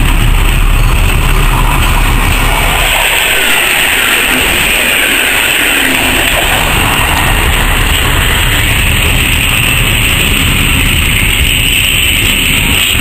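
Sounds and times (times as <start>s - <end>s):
freight wagons rumbling on rails: 0.0s - 13.0s.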